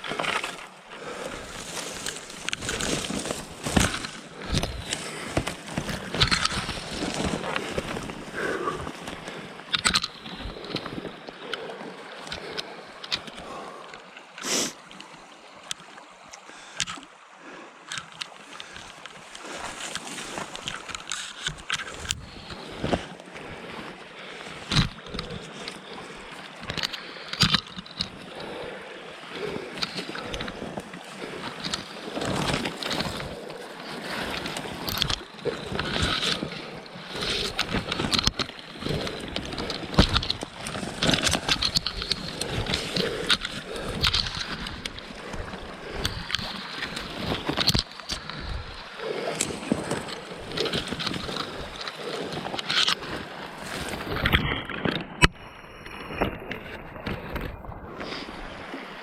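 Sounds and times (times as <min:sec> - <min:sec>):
paddle knocks and clacks: 0:00.0 - 0:15.1, 0:17.9 - 0:28.6, 0:29.4 - 0:58.9
water sloshing and gurgling: 0:00.0 - 0:59.0.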